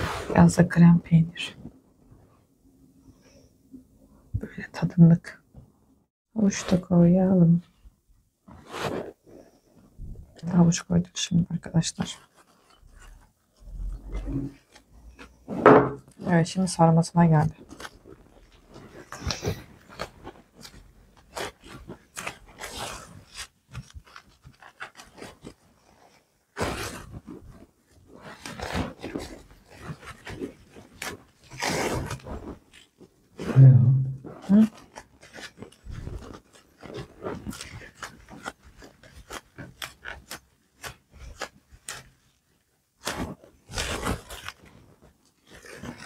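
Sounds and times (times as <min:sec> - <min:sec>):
sushi mat rubbing and scraping: 0:00.0 - 0:03.5, 0:06.4 - 0:46.0.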